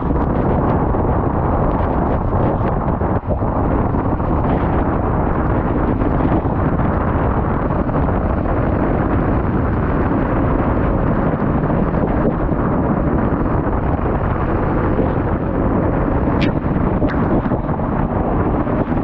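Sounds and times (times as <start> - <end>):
loud bass rumble: 0.0 - 19.0.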